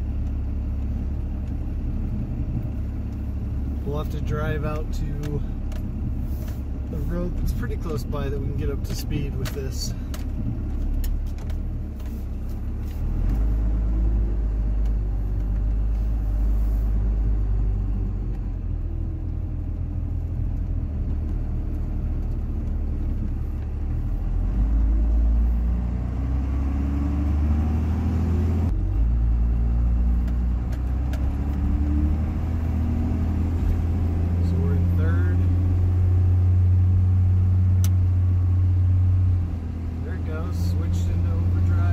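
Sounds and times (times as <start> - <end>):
diesel pickup engine drone: 0.0 - 41.9.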